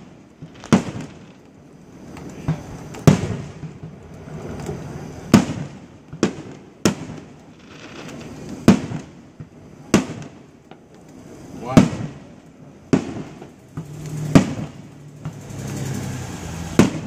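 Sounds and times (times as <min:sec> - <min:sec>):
soft firework pops: 0:00.0 - 0:01.5, 0:02.1 - 0:12.3, 0:12.9 - 0:15.4, 0:16.8 - 0:17.0
firework booms with echo: 0:00.0 - 0:10.6, 0:11.3 - 0:17.0.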